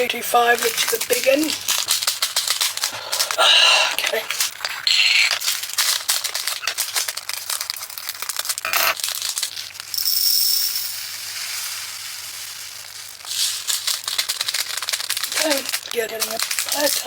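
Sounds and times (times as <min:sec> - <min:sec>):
tiny plastic beads pouring: 0:00.0 - 0:17.0.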